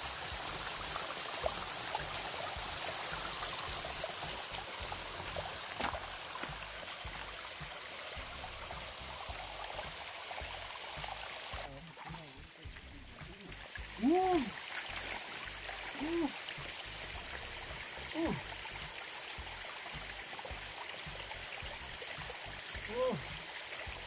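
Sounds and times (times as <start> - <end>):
stream water over rocks: 0.0 - 24.0.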